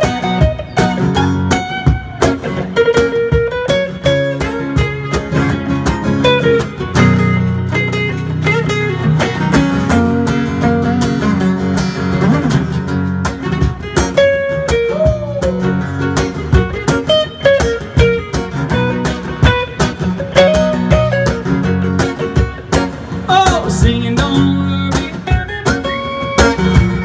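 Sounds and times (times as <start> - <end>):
electric guitar solo with bends: 0.0 - 23.4, 24.4 - 27.0
strummed guitar chords: 0.0 - 27.0.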